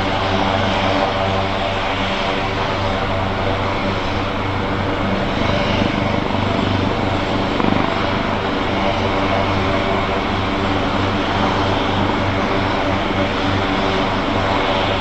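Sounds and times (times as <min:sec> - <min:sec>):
helicopter engines whining: 0:00.0 - 0:15.0
helicopter rotor beating: 0:00.1 - 0:15.0.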